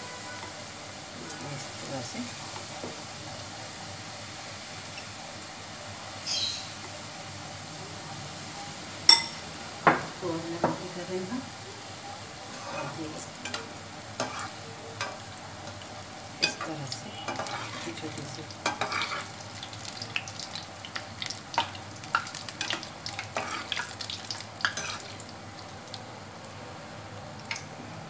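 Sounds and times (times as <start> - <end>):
hot oil sizzling: 0.0 - 28.0.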